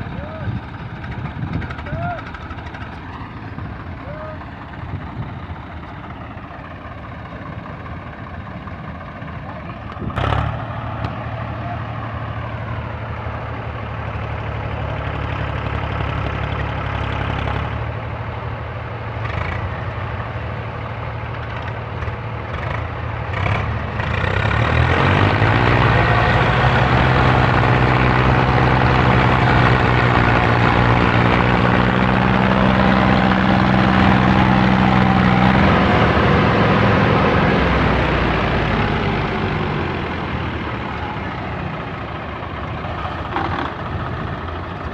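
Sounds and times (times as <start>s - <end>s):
tractor diesel engines revving: 0.0s - 44.9s.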